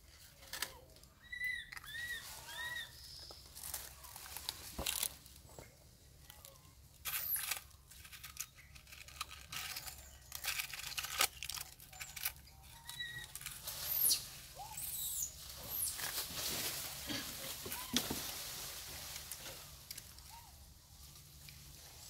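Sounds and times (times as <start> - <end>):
dry leaves crackling and rustling: 0.1 - 22.0.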